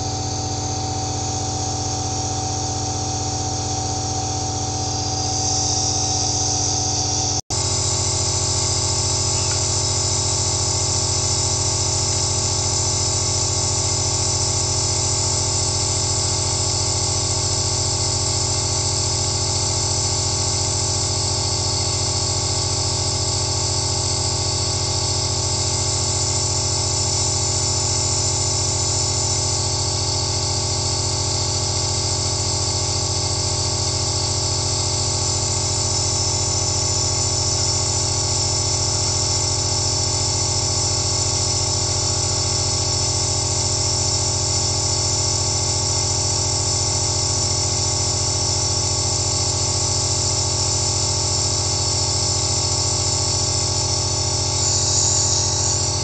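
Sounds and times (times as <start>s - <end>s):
nebulizer motor hum: 0.0s - 56.0s.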